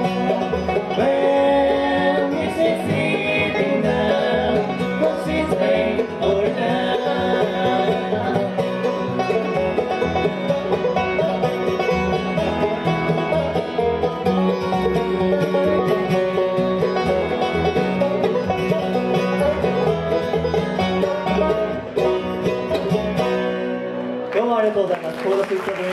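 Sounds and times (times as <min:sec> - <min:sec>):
acoustic guitar: 0:00.0 - 0:24.7
banjo: 0:00.0 - 0:24.8
mandolin: 0:00.0 - 0:25.4
fiddle: 0:00.0 - 0:25.9
upright bass: 0:00.0 - 0:25.9.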